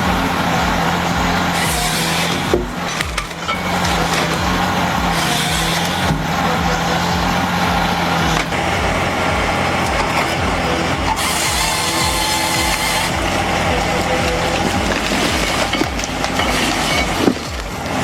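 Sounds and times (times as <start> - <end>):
heavy machine running under load: 0.0 - 18.0
wood cracking and splintering: 0.0 - 18.0.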